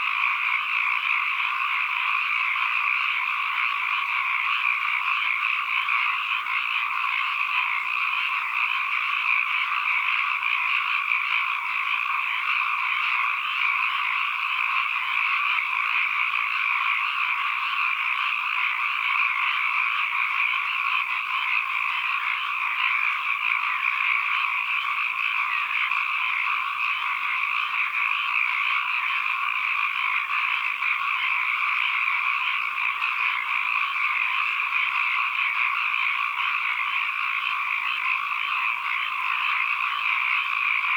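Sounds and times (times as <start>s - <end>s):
frogs croaking: 0.0s - 40.9s.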